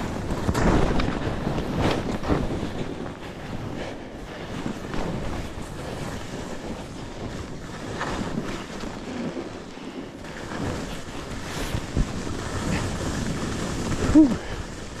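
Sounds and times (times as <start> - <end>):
skis rushing over snow: 0.0 - 15.0
wind buffeting microphone: 0.0 - 15.0.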